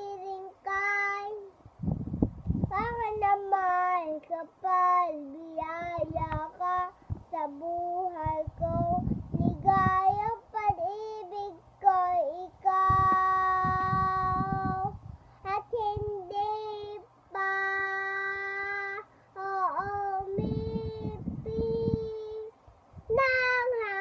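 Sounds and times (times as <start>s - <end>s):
girl singing unaccompanied: 0.0s - 1.8s, 2.5s - 24.0s.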